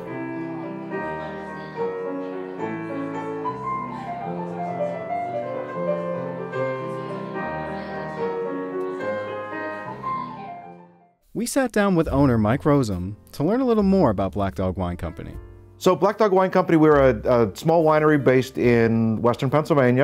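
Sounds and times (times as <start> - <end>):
piano chords: 0.0 - 11.2, 12.0 - 20.0.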